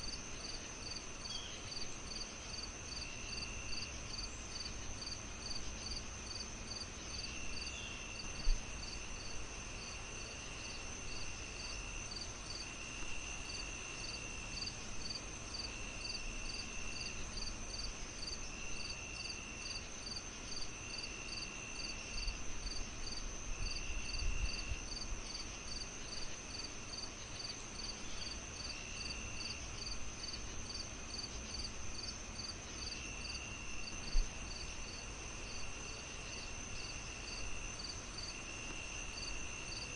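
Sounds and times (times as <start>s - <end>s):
crickets chirping: 0.0s - 39.9s
lower buzzing insect call: 0.0s - 39.9s.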